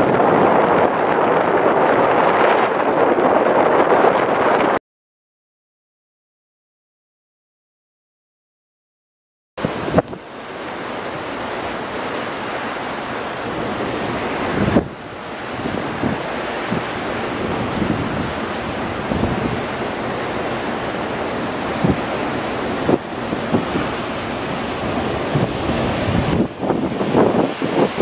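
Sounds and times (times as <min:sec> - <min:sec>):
boat wake rushing: 0:00.0 - 0:04.8, 0:09.6 - 0:28.0
wind buffeting microphone: 0:00.0 - 0:04.8, 0:09.6 - 0:28.0.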